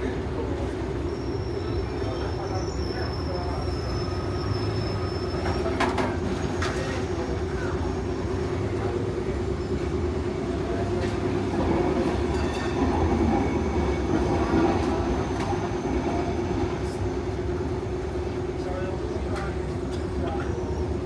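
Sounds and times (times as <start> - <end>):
tram running on track: 0.0 - 21.0.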